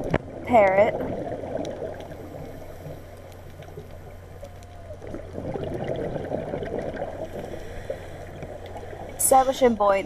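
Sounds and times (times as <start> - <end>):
muffled underwater water rush: 0.0 - 10.0
scuba exhaust bubbles gurgling: 0.0 - 10.0.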